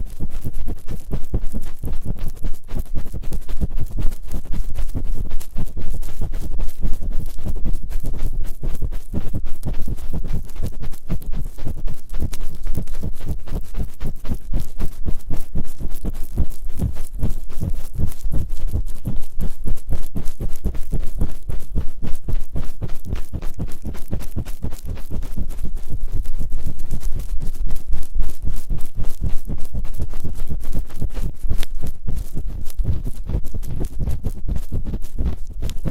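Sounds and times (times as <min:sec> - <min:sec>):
rubbing and scratching on microphone: 0:00.0 - 0:35.9.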